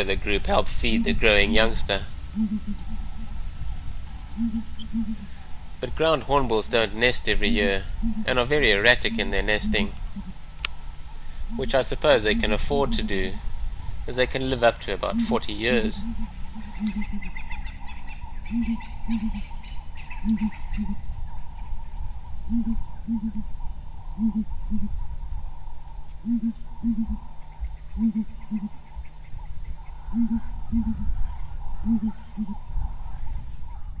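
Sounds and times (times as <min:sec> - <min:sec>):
hornbills booming deep hoots: 0:00.0 - 0:33.9.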